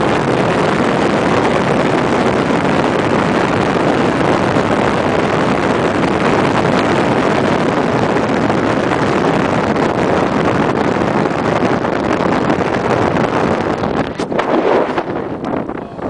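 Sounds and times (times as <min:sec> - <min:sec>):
vehicle noise: 0:00.0 - 0:16.0
wind buffeting microphone: 0:00.0 - 0:16.0.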